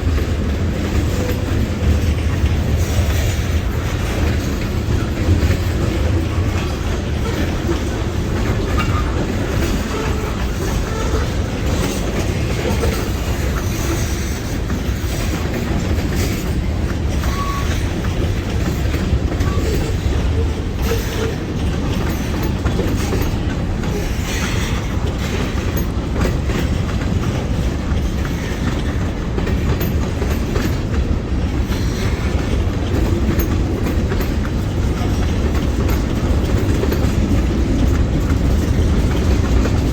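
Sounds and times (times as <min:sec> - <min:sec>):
freight train wheels rumbling on rail: 0:00.0 - 0:39.9
wheels clacking over rail joints: 0:00.0 - 0:39.9.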